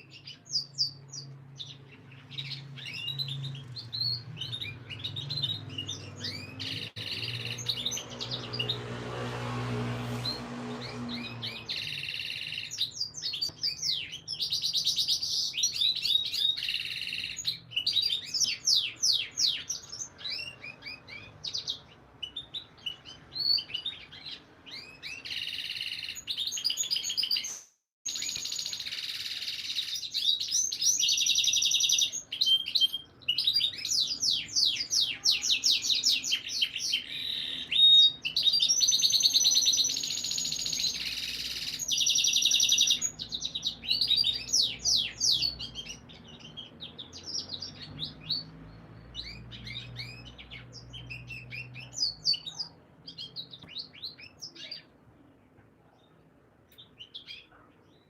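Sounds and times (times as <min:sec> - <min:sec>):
canary singing trills: 0:00.0 - 0:09.0, 0:10.1 - 0:55.4.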